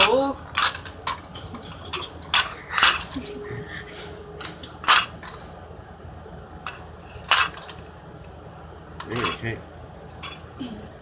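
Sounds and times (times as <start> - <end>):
harsh mechanical noises: 0.0 - 10.5.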